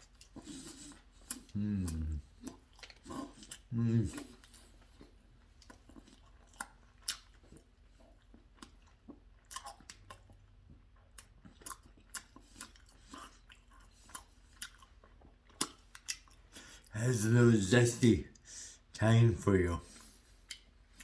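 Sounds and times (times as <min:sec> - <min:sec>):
person chewing food: 0:00.0 - 0:16.9, 0:19.9 - 0:21.0.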